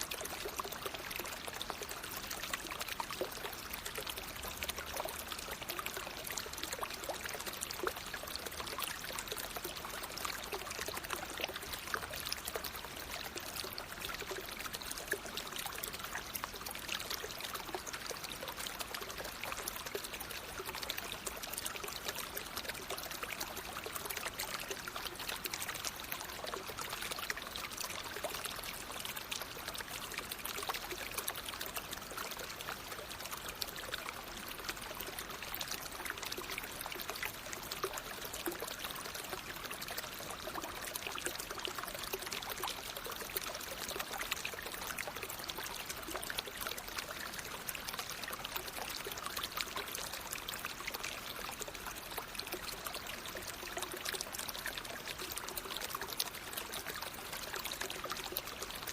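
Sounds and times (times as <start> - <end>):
stream water flowing: 0.0 - 58.9.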